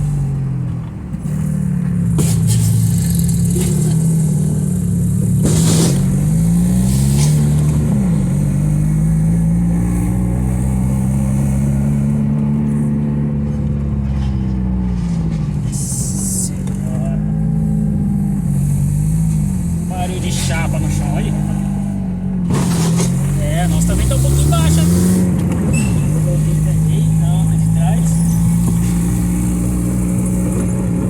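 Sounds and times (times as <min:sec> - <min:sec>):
car engine running: 0:00.0 - 0:31.0
harsh scraping bursts: 0:01.2 - 0:08.5, 0:10.0 - 0:31.0.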